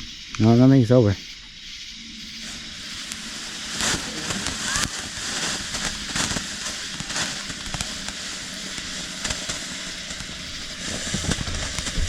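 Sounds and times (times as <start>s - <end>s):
firework crackling pops: 0.0s - 12.0s
firework hissing: 0.0s - 12.0s.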